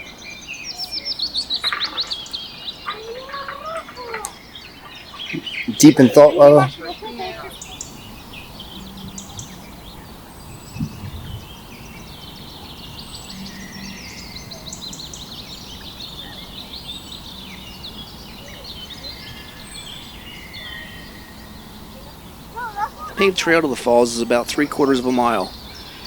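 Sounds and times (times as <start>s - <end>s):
birds chirping and trilling: 0.0s - 26.0s
outdoor background noise: 0.0s - 26.0s.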